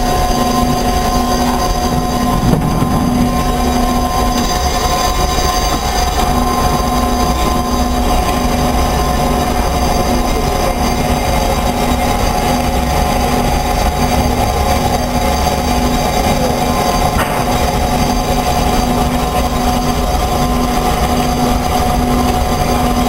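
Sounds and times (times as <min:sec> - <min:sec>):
band saw cutting: 0:00.0 - 0:23.0
low pulsing hum: 0:00.0 - 0:23.0.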